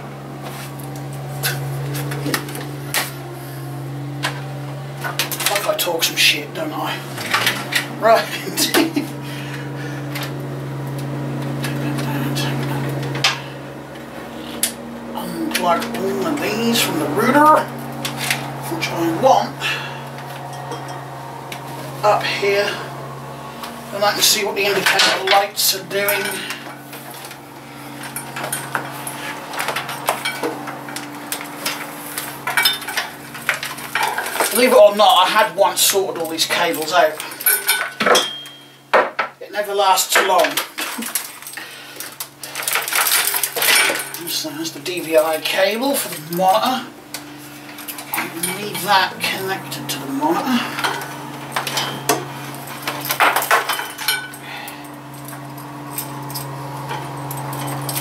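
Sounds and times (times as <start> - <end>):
steady low hum: 0.0 - 58.0
cables rattling and clicking: 0.4 - 38.6, 39.5 - 58.0.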